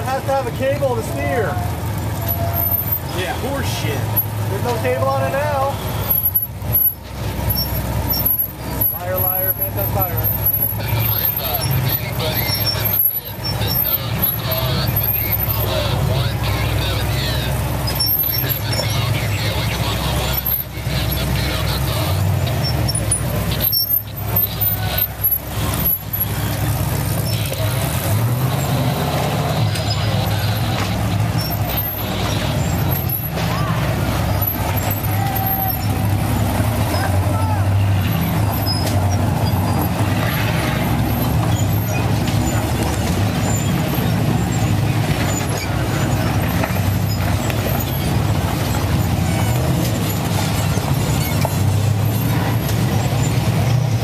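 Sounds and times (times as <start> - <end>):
buggy engines revving hard: 0.0 - 54.0.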